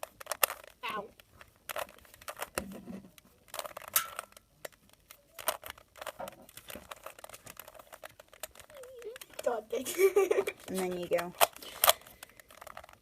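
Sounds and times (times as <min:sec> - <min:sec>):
plastic cube clicking and rattling: 0:00.0 - 0:13.0.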